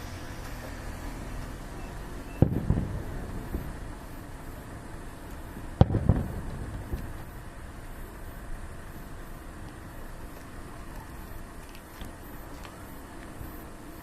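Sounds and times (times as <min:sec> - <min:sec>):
fireworks shells bursting: 0:00.0 - 0:14.0
small fireworks pops: 0:00.1 - 0:14.0.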